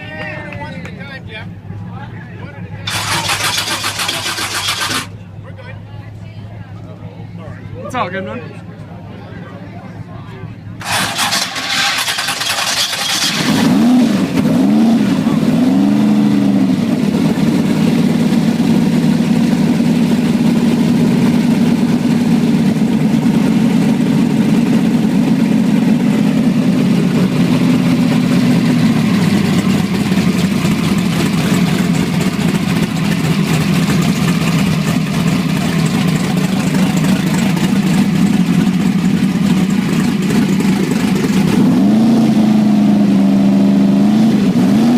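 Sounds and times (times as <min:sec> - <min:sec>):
drag car engine idling: 0:00.2 - 0:14.4, 0:15.0 - 0:43.8.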